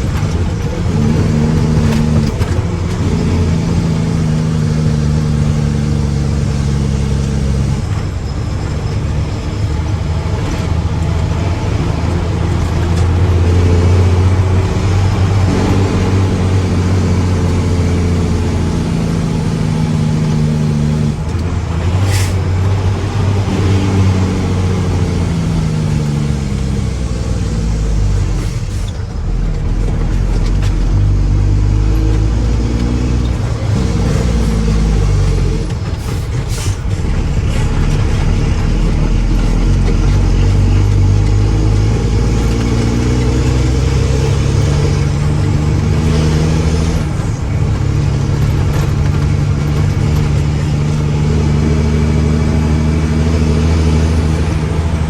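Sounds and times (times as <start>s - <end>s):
diesel truck engine revving: 0.0s - 55.0s.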